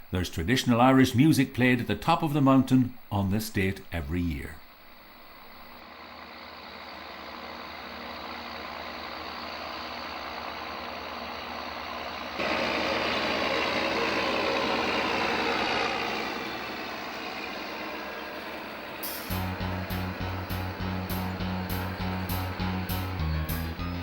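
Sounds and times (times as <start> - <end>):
tractor diesel engines under load: 0.0 - 24.0.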